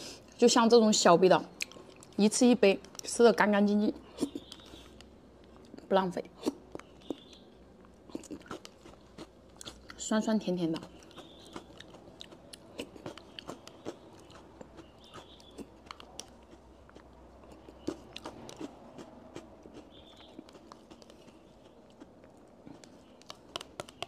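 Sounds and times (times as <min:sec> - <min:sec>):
chewing with crunches: 0:01.6 - 0:02.2, 0:04.0 - 0:24.0.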